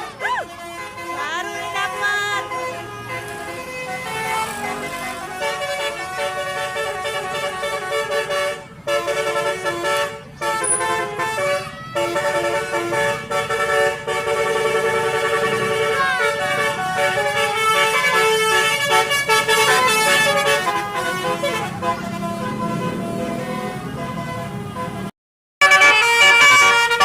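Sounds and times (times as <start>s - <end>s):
musical bus horn playing a tune: 0.0s - 27.0s.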